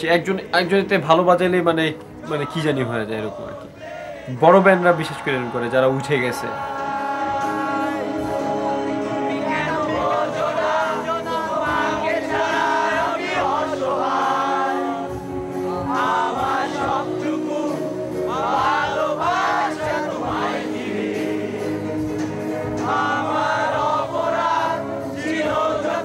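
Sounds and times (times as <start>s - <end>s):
young men singing together: 2.3s - 26.0s
held instrumental chords: 4.4s - 26.0s.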